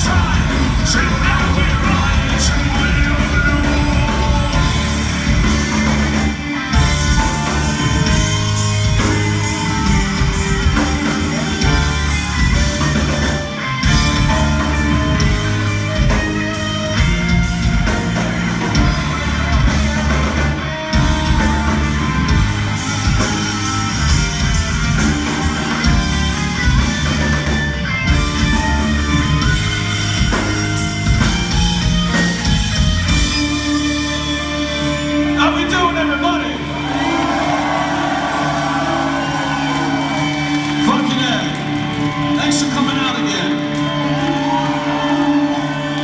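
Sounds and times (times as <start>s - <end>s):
metal band playing: 0.0s - 46.0s.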